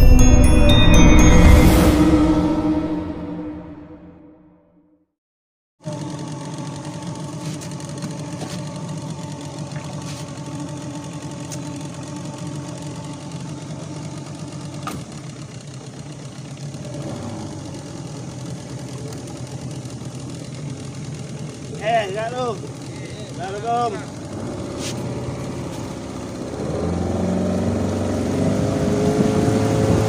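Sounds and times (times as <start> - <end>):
outboard motor running: 5.8 - 30.0.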